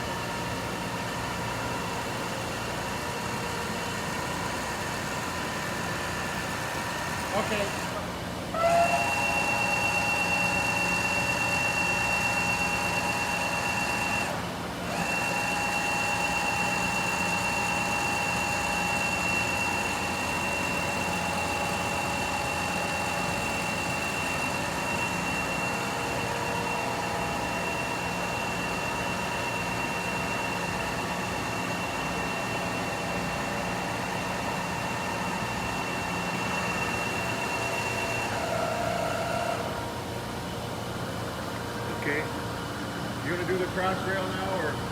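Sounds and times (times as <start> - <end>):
machine high-pitched whine: 0.0 - 44.9.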